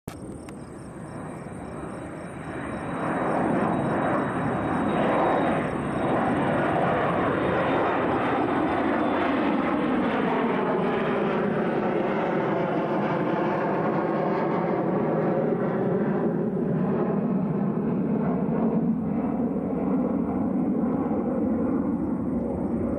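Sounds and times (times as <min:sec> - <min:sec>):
jet airliner passing low: 0:00.1 - 0:22.9.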